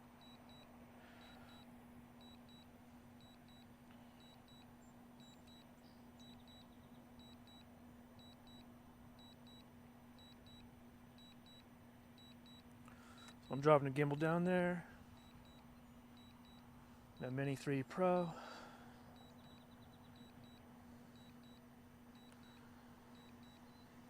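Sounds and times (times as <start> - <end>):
steady low hum: 0.0 - 24.0
faint double beeps: 0.2 - 14.5, 15.2 - 17.6, 19.1 - 24.0.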